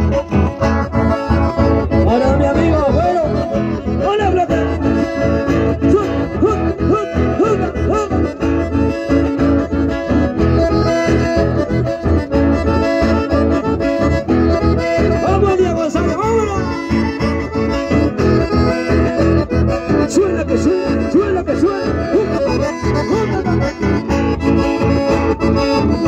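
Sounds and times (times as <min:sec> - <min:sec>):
accordions playing melody: 0:00.0 - 0:26.0
strummed acoustic guitars: 0:00.0 - 0:26.0.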